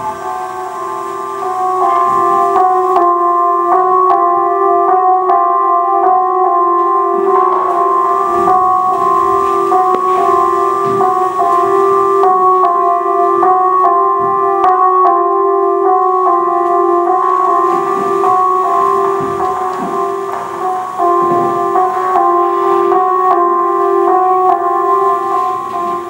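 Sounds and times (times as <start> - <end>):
repeating keyboard piano pattern: 0.0 - 26.0.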